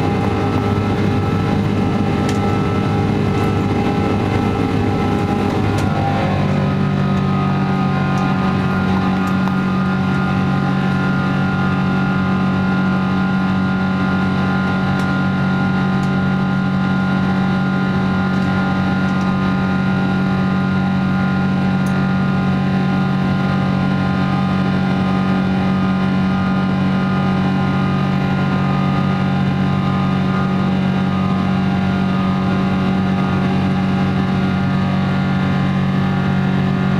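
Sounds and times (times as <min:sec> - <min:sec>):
jet engine drone in cabin: 0:00.0 - 0:36.9
steady humming tones: 0:00.0 - 0:36.9.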